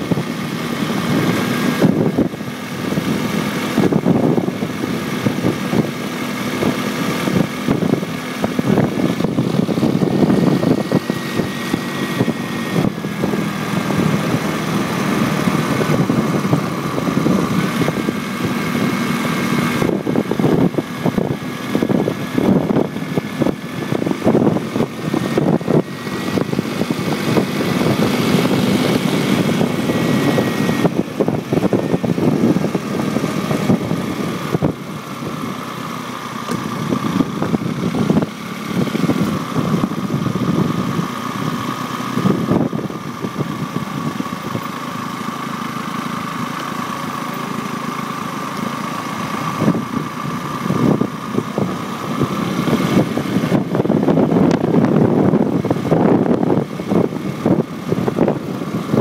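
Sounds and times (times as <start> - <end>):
wind buffeting microphone: 0.0 - 44.8, 49.0 - 59.0
steady whine: 0.0 - 59.0
vehicle engine running: 0.0 - 59.0.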